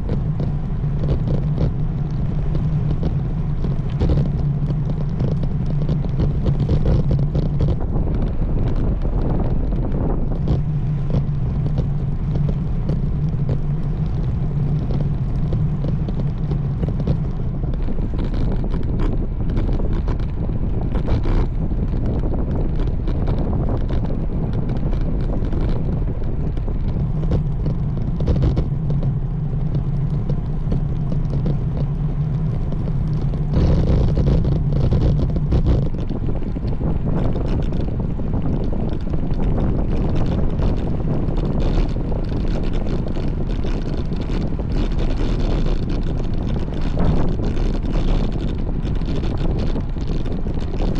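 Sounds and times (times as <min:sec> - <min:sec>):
low rumble: 0:00.0 - 0:50.9
small crackles: 0:00.0 - 0:50.9
wind buffeting microphone: 0:00.0 - 0:50.9.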